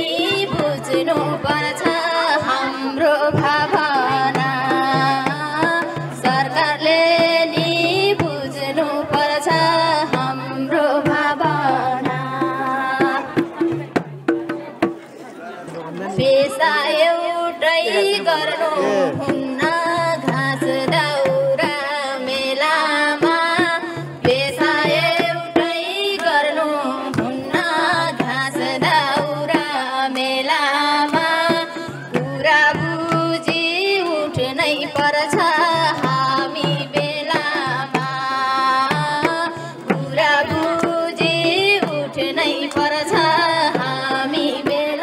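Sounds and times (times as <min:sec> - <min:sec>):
woman singing: 0:00.0 - 0:13.8, 0:16.1 - 0:45.0
hand drum beating: 0:00.0 - 0:15.0, 0:19.0 - 0:45.0.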